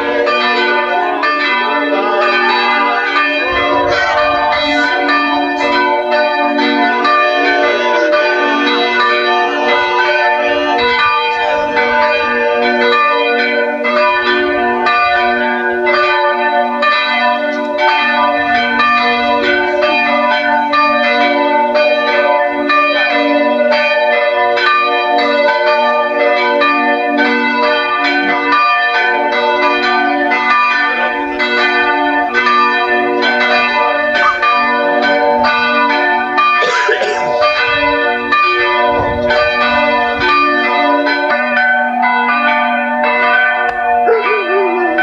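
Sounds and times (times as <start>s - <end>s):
church bells pealing: 0.0s - 45.0s.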